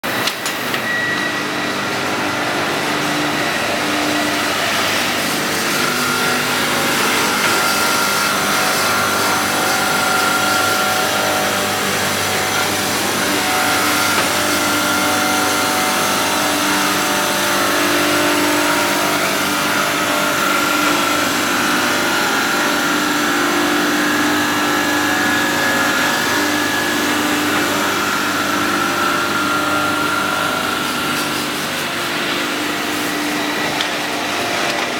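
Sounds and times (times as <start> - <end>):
machinery drone: 0.0 - 34.9
whining machine tones: 0.0 - 34.9.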